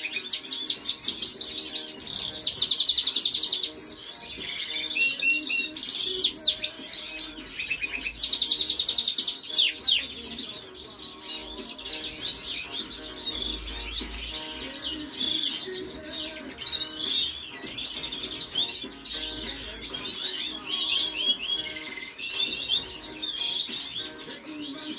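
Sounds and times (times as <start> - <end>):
canary singing: 0.0 - 24.9.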